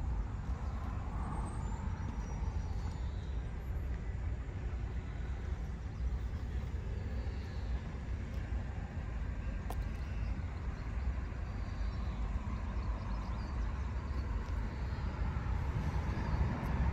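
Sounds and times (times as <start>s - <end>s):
wind buffeting the microphone: 0.0s - 16.9s.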